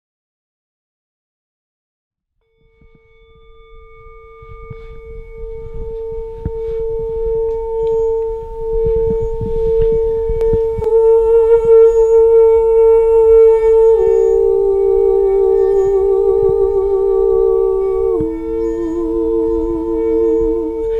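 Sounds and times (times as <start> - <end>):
wavering note with vibrato: 2.5 - 20.9
low uneven rumble: 2.9 - 20.9
sustained musical note: 2.9 - 20.9.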